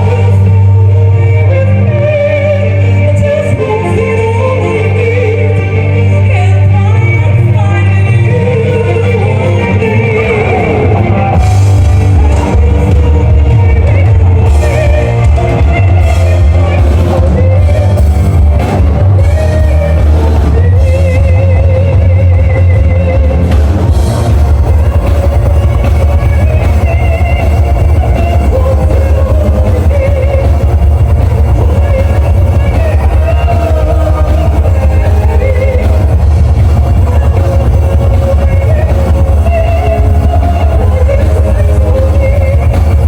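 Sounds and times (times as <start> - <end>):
rock music with sung vocal: 0.0 - 43.0.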